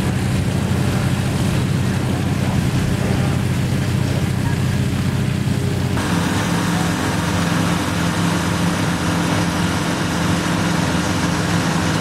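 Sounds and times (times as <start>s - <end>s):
small aircraft engine drone: 0.0s - 12.0s.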